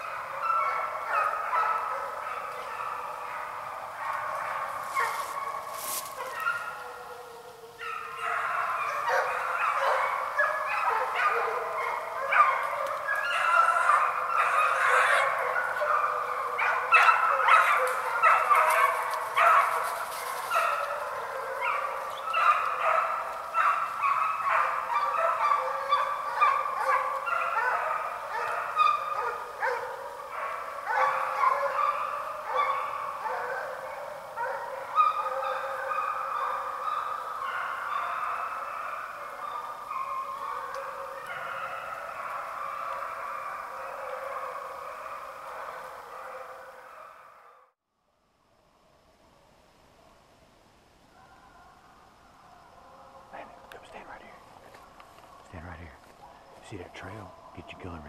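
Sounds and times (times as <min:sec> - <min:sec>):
pack of hounds barking: 0:00.0 - 0:47.7, 0:51.1 - 0:58.0.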